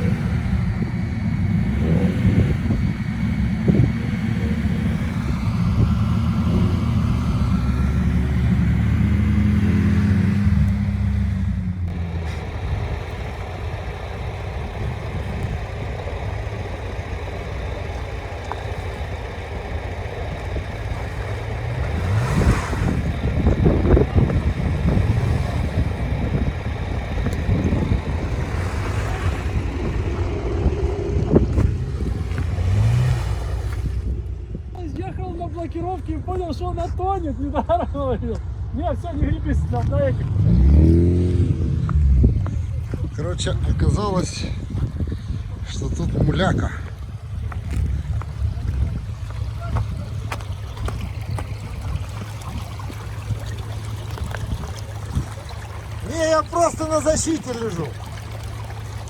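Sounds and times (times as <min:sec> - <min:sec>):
off-road vehicle engine revving: 0:00.0 - 0:59.0.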